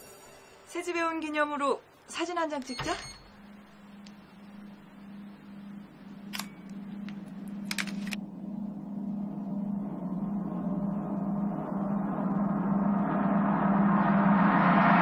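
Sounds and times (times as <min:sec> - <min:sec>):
low steady hum: 0:00.5 - 0:15.0.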